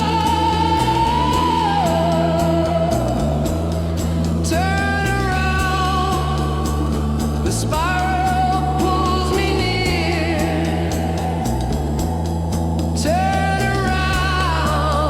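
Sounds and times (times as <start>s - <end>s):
sliding wordless lead melody: 0.0s - 15.0s
walking bass line: 0.0s - 15.0s.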